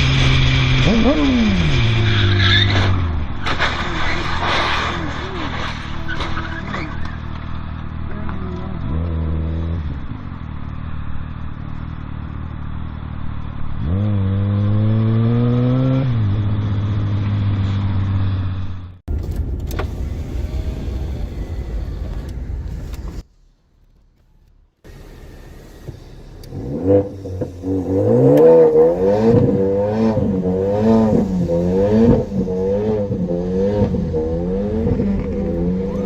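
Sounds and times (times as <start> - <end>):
car engine accelerating: 0.0 - 36.0
steady vehicle noise: 0.0 - 36.0.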